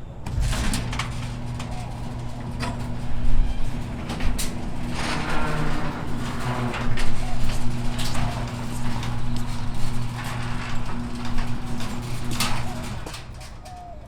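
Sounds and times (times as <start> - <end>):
steady low hum: 0.0 - 14.0
rustling: 0.3 - 14.0.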